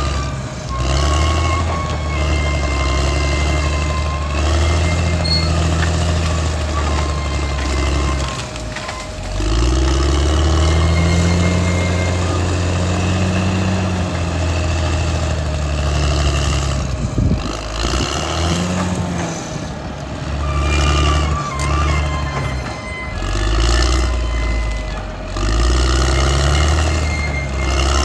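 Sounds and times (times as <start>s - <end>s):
bulldozer diesel engine running hard: 0.0s - 28.0s.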